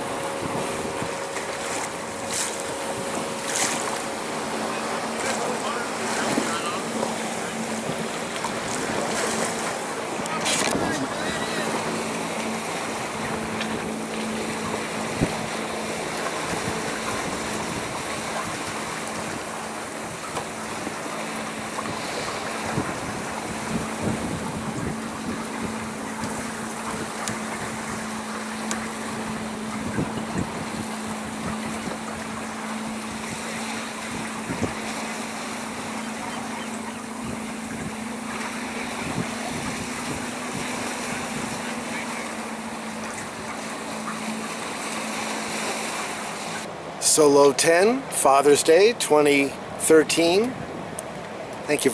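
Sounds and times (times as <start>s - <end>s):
low boat engine hum: 0.0s - 51.9s
wind and water rushing: 0.0s - 51.9s.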